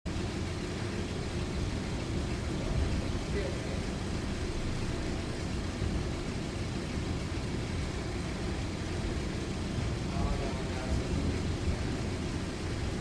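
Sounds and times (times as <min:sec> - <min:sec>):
low rumbling room noise: 0:00.1 - 0:13.0.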